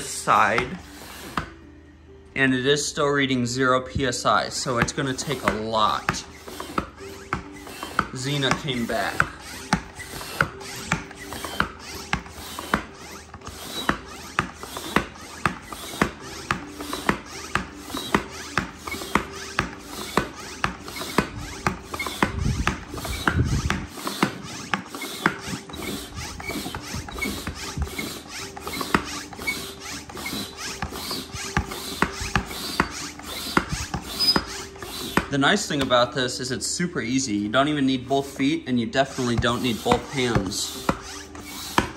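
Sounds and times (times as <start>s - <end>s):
hand pump clicking: 0.0s - 1.6s, 4.5s - 36.1s, 38.1s - 41.9s.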